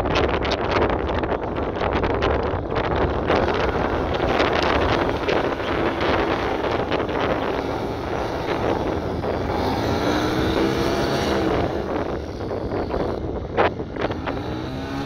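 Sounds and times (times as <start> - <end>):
plane engine and propeller: 0.0 - 15.0
wind buffeting microphone: 0.0 - 15.0.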